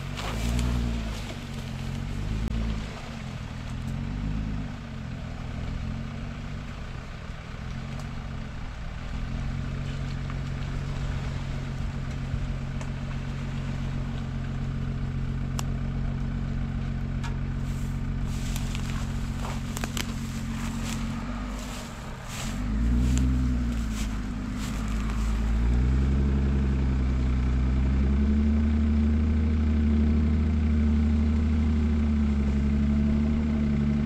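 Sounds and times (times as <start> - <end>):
car engine working under load: 0.0 - 34.0.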